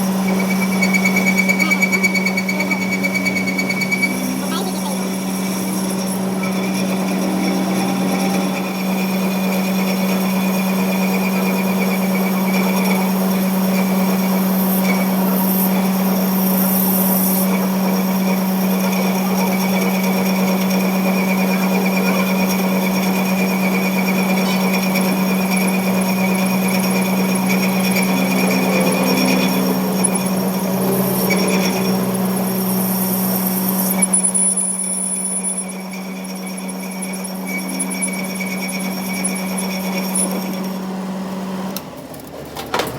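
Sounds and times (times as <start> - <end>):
power tool running: 0.0 - 42.1.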